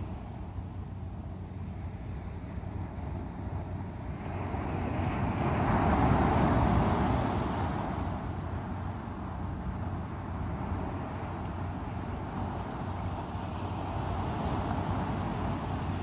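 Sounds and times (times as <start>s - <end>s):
low rumble of waves: 0.0s - 16.0s.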